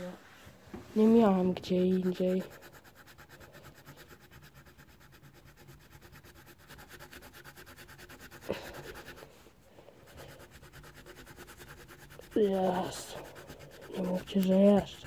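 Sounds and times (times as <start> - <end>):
colouring pencil scratching paper: 1.0 - 15.0.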